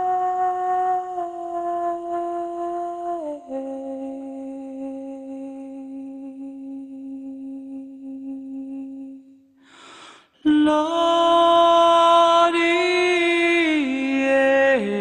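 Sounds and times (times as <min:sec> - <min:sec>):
person singing long held notes: 0:00.0 - 0:15.0.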